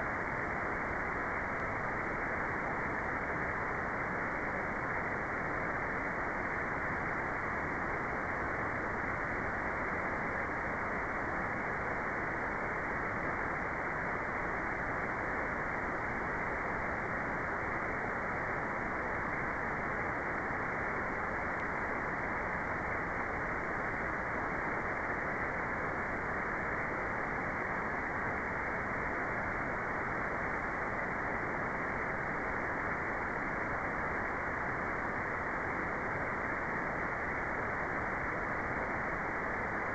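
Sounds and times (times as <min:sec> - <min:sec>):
muffled white noise hiss: 0:00.0 - 0:39.9.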